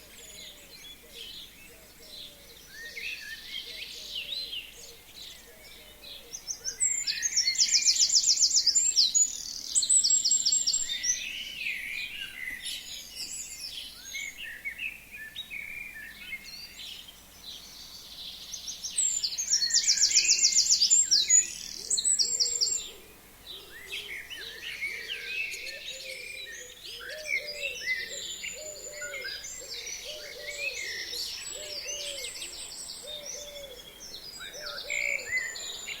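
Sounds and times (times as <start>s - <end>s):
songbirds singing: 0.0s - 36.0s.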